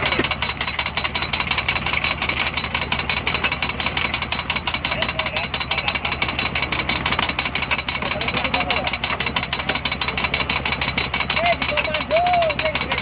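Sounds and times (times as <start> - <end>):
drilling rig engine knocking: 0.0 - 13.0.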